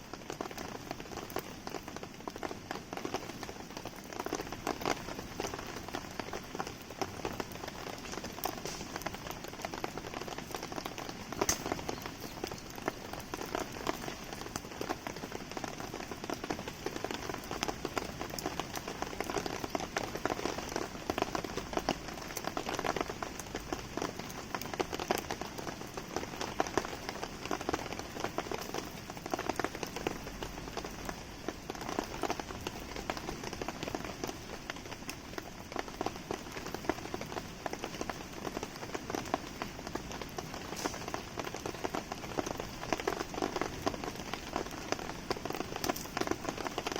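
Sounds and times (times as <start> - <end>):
campfire crackling: 0.0 - 46.9
steady rain falling: 0.0 - 46.9.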